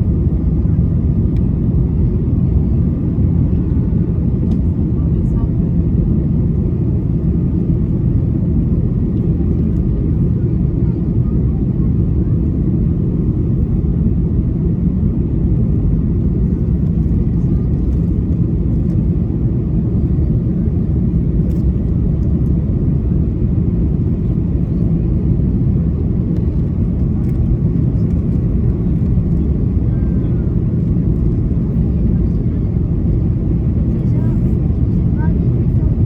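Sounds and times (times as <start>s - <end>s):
airflow over fuselage: 0.0s - 36.0s
jet engines humming: 0.0s - 36.0s.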